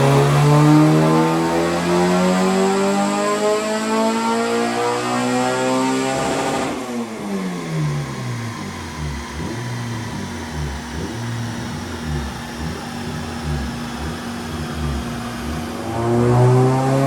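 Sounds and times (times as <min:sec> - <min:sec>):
car engine revs falling: 0:00.0 - 0:17.0
steady dyno hum: 0:00.0 - 0:17.0.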